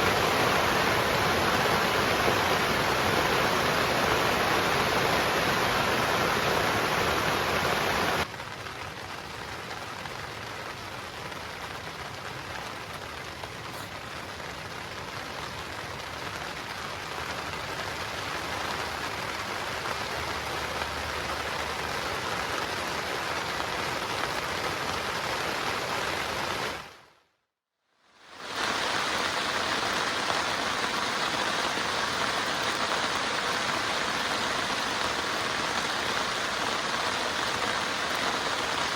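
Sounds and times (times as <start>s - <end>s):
heavy rain falling: 0.0s - 27.0s, 28.2s - 38.9s.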